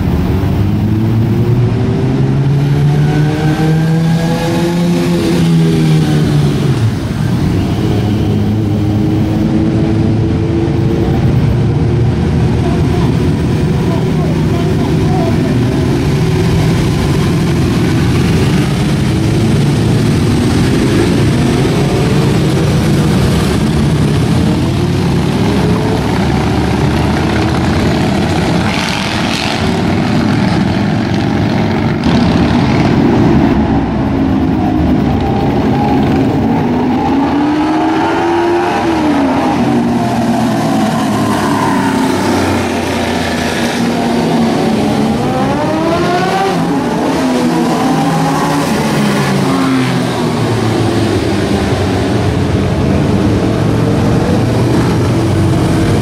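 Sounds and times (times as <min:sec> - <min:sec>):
continuous rumble of engines: 0:00.0 - 0:56.0
motorcycles riding past revving: 0:00.0 - 0:56.0.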